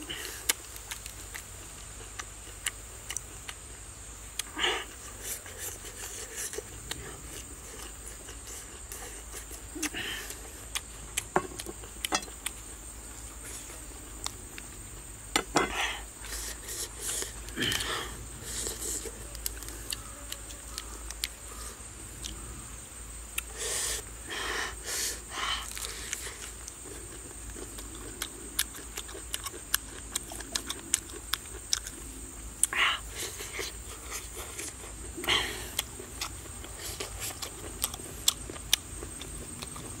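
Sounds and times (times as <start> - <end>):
insects droning: 0.0 - 40.0
wet chewing and lip-smacking: 0.2 - 15.1, 16.1 - 21.6, 23.3 - 23.6, 25.6 - 40.0.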